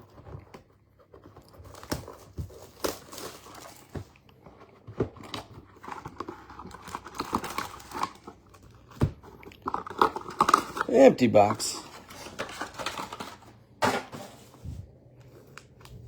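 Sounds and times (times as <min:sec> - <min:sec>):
packaging tearing and crinkling: 0:00.1 - 0:04.1, 0:05.1 - 0:14.5.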